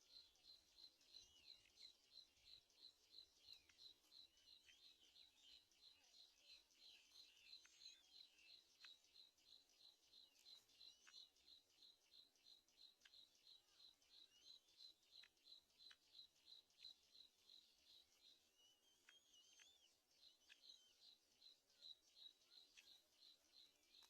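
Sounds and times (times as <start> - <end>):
faint rapid chirps: 0.0 - 24.0.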